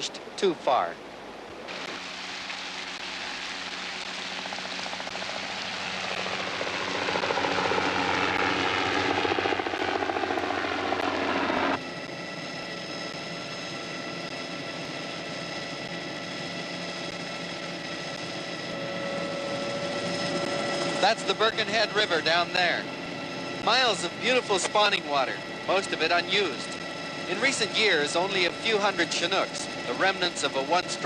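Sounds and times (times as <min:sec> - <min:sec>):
helicopter cabin drone: 0:01.3 - 0:31.0
helicopter rotor beating: 0:01.5 - 0:31.0.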